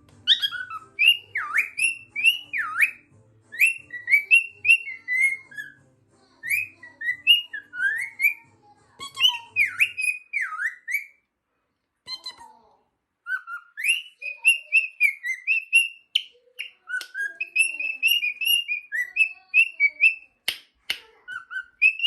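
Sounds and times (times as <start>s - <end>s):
cockatiel whistling a tune: 0.2s - 5.8s, 6.4s - 11.2s, 13.3s - 20.3s, 21.3s - 22.0s.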